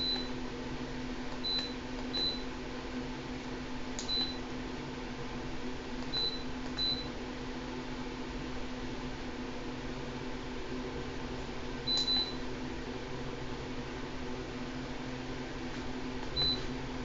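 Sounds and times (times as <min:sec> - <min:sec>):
electric heater hum and fan: 0:00.0 - 0:17.0.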